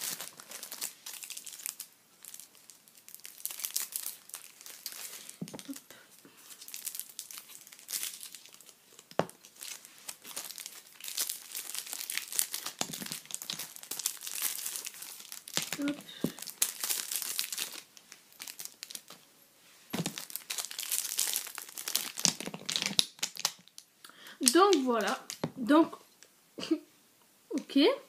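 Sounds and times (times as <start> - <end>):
plastic wrapping crinkling: 0.0 - 19.2, 19.9 - 25.5.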